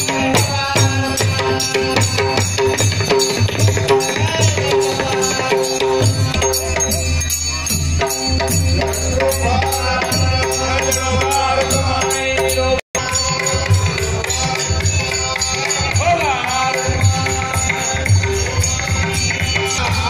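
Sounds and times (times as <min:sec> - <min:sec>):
drum beat: 0:00.0 - 0:20.0
voices chanting devotional song: 0:00.0 - 0:20.0.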